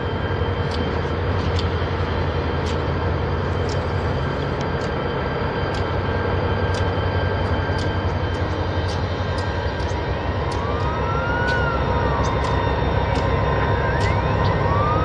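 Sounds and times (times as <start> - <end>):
diesel locomotive engine rumbling: 0.0 - 15.0
rising and falling whine: 0.0 - 15.0.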